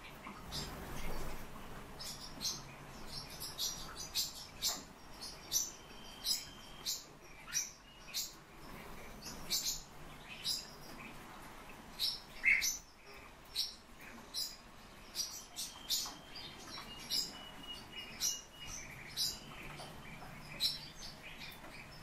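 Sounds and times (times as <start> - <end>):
pet birds chirping: 0.0 - 22.0.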